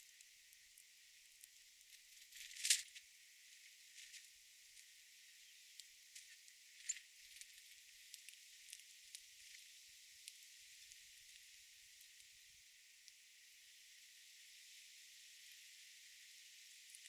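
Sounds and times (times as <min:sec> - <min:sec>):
faint ticks: 0:00.0 - 0:17.0.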